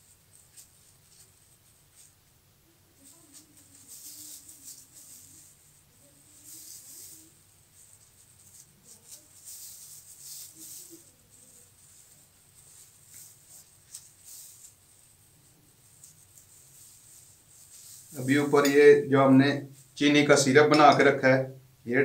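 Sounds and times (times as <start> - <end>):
plastic gloves crinkling: 0.0 - 21.8.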